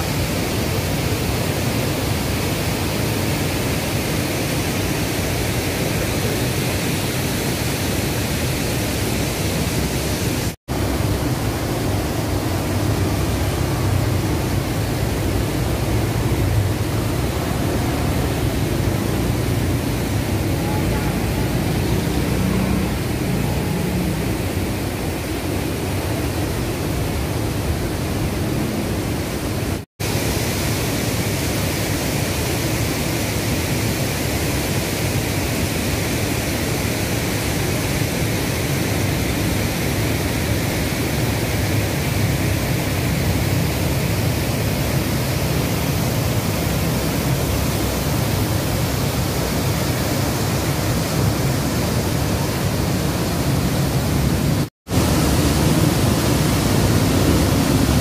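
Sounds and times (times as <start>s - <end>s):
river water rushing over weir: 0.0s - 58.0s.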